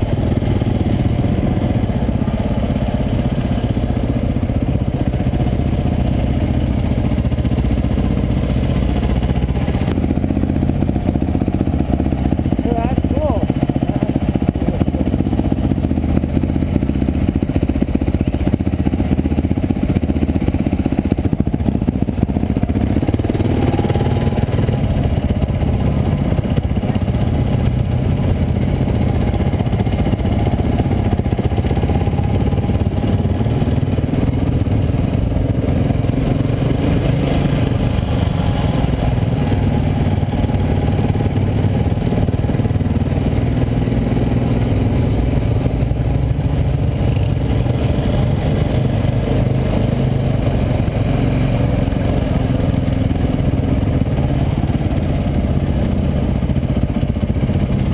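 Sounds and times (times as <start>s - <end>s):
dirt bike engine running: 0.0s - 57.9s.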